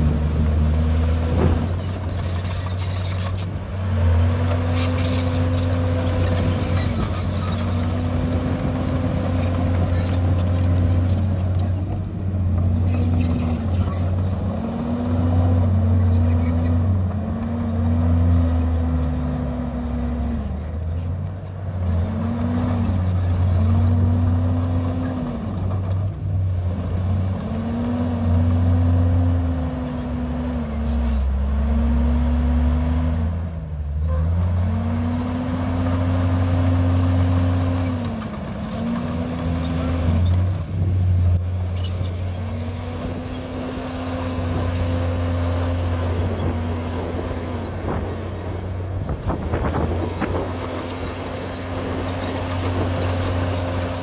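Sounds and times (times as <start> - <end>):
bulldozer diesel engine revving: 0.0 - 54.0.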